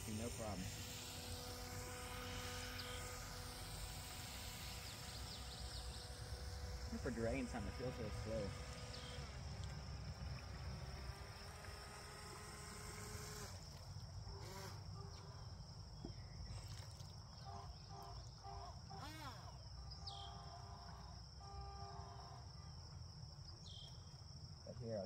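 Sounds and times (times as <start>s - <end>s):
small electric motor whining: 0.0s - 22.6s
high insect-like buzz: 0.0s - 25.0s.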